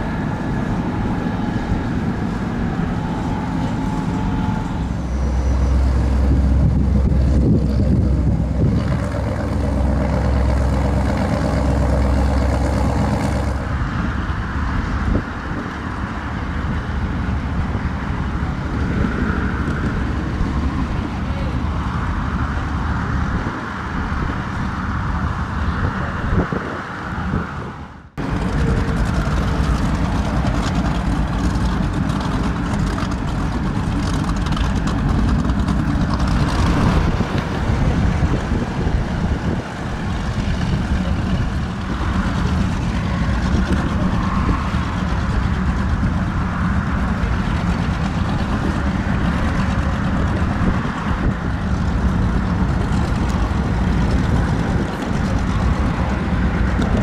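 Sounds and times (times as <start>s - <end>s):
powerboat engines idling: 0.0s - 25.8s, 28.1s - 57.0s.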